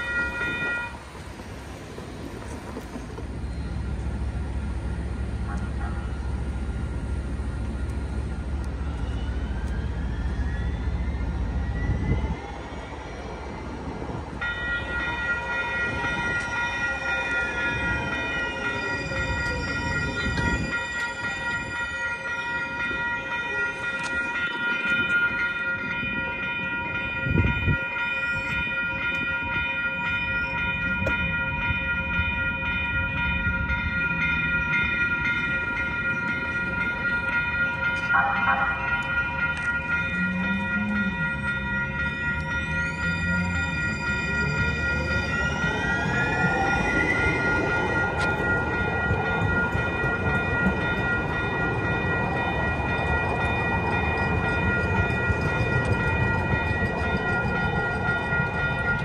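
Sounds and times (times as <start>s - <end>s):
low rumble of traffic: 0.0s - 27.9s, 28.7s - 59.0s
railroad crossing bells ringing: 0.0s - 59.0s.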